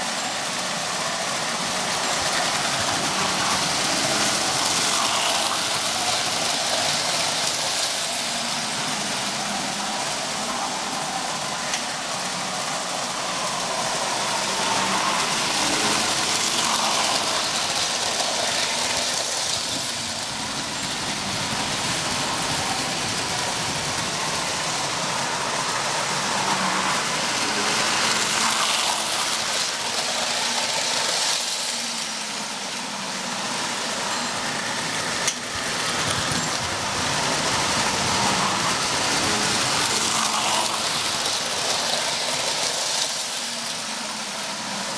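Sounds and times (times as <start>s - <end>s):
toy train motors whirring: 0.0s - 44.9s
toy train wheels rumbling on rails: 0.0s - 44.9s.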